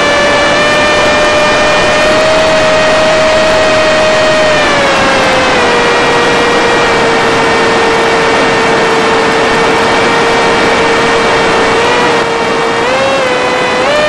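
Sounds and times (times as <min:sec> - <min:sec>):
electric motor and propeller whine: 0:00.0 - 0:14.0.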